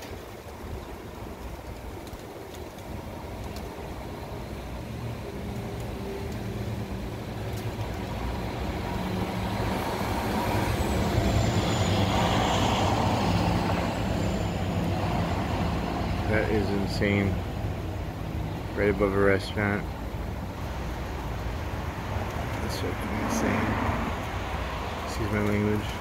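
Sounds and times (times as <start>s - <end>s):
large vehicle engine humming: 0.0s - 26.0s
road noise: 0.0s - 26.0s.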